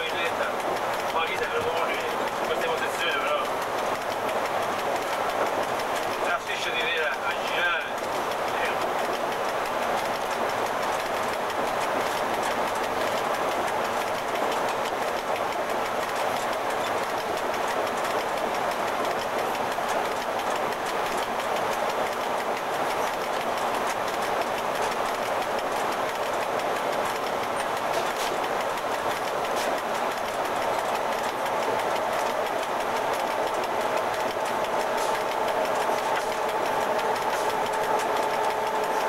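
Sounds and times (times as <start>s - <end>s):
locomotive cab rumble and rattle: 0.0s - 39.0s
wheels clicking on track: 0.0s - 39.0s.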